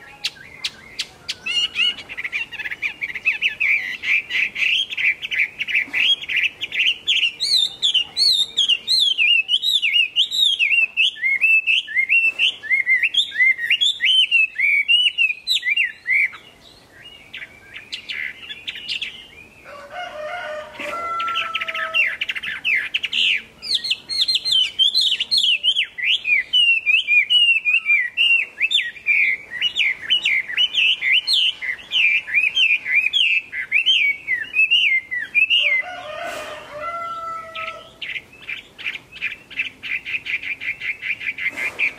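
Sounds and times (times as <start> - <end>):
bird singing whistled notes: 0.0 - 19.7, 21.2 - 36.0.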